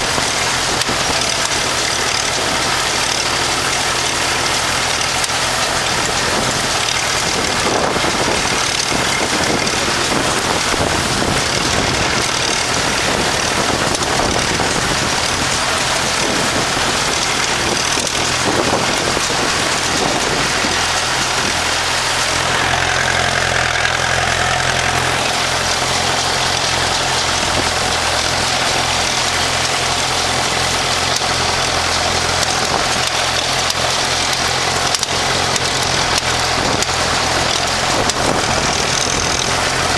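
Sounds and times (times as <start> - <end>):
wind noise on microphone: 0.0 - 24.2, 24.8 - 39.9
tractor engine running: 0.0 - 39.9.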